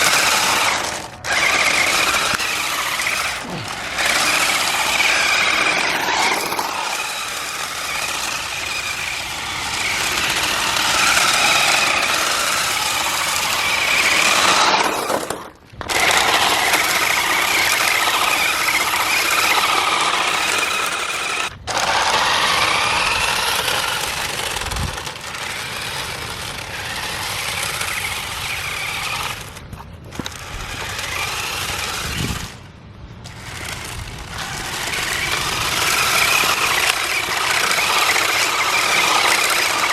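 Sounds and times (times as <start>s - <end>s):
toy car electric motor whining: 0.0s - 39.9s.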